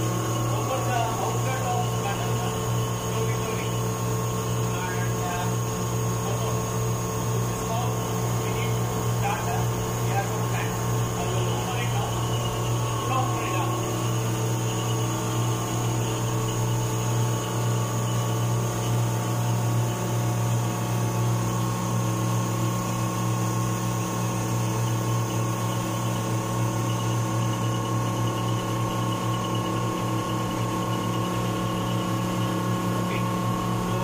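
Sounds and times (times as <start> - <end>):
air conditioning machinery hum: 0.0 - 34.0.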